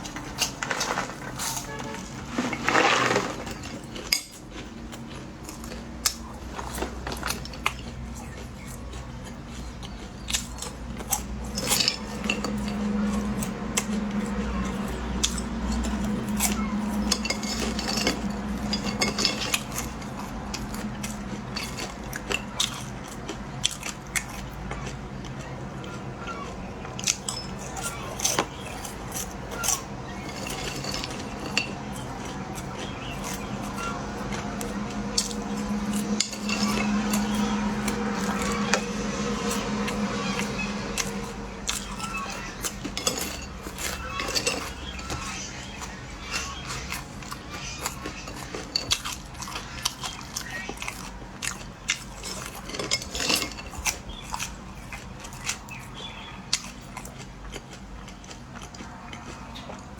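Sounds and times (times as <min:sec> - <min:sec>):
low steady hum: 0:00.0 - 0:59.9
utensils clinking against dishes: 0:00.0 - 0:59.9.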